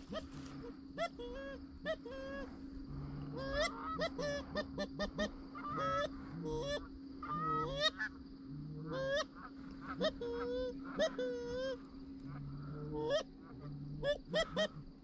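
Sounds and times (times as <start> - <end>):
geese honking and clucking: 0.0 - 14.9.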